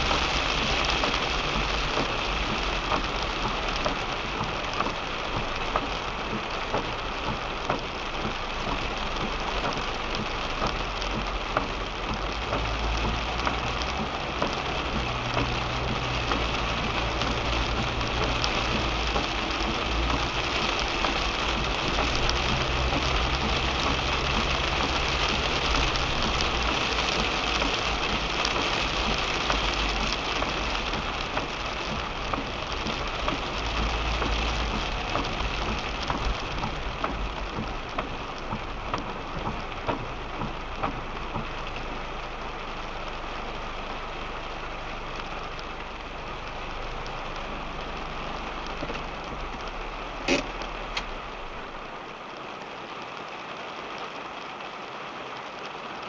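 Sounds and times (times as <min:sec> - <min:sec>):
low rumble and hum: 0:00.0 - 0:52.2
rain on a car: 0:00.0 - 0:56.0.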